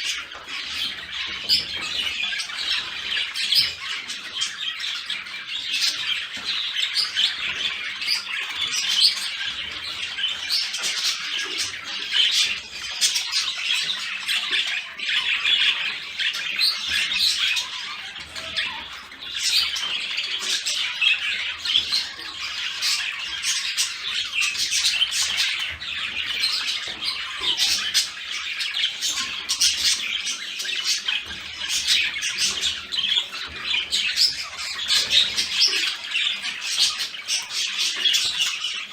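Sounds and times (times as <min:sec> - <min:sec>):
budgerigars chattering and warbling: 0:00.0 - 0:38.9.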